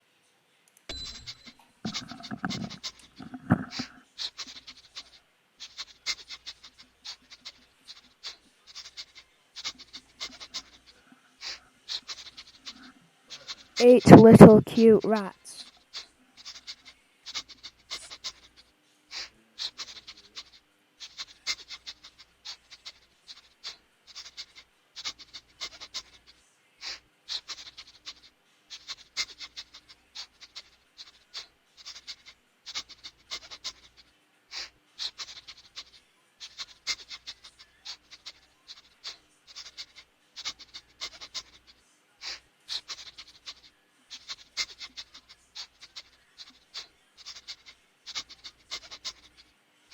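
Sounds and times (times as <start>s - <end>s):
rats clicking and scratching: 0.9s - 14.5s, 15.3s - 49.9s.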